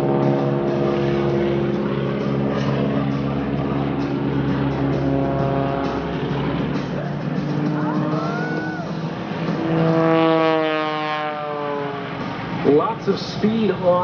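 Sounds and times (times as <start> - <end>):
propeller plane passing overhead: 0.0 - 14.0.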